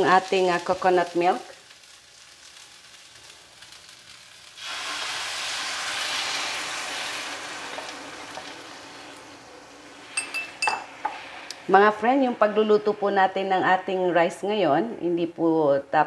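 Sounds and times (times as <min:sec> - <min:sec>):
rice sizzling in oil: 0:00.0 - 0:13.6
loud hissing sizzle: 0:00.0 - 0:14.6.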